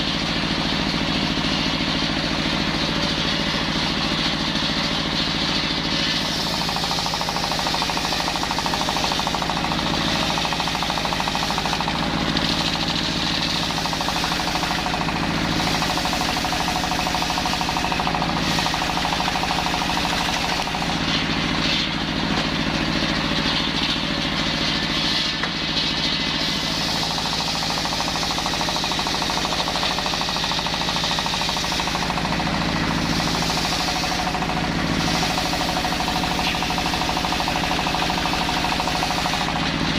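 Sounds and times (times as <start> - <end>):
brush cutter sawing wood: 5.3 - 39.9.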